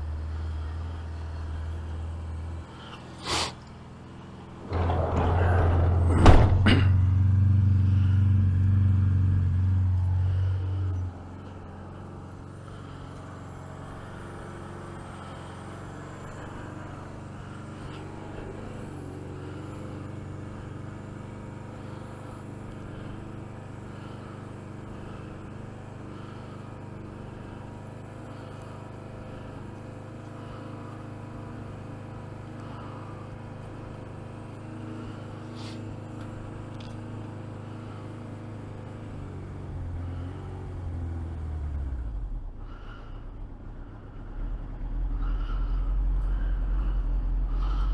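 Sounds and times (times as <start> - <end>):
motorcycle engine idling: 0.0 - 4.9, 6.6 - 47.9.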